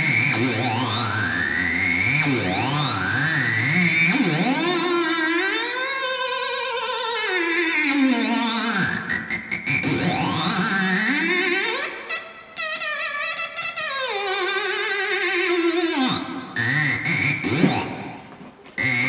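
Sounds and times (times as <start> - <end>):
theremin wavering tone: 0.0 - 19.0.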